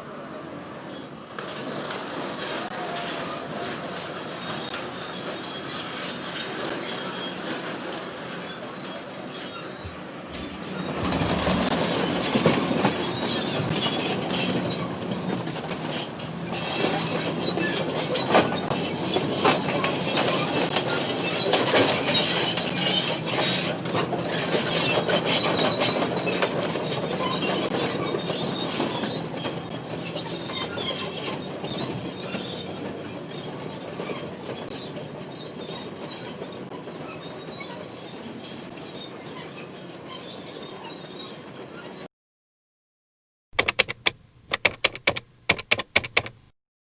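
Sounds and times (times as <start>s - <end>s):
bulldozer engine drone: 0.1s - 39.4s
metal crunching and screeching: 2.9s - 42.1s.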